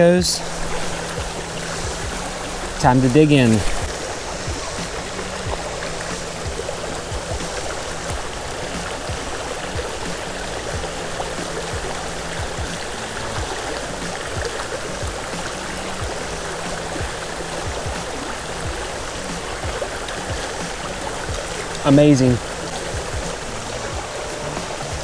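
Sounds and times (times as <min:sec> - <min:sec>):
creek water rushing over rocks: 0:00.0 - 0:25.0.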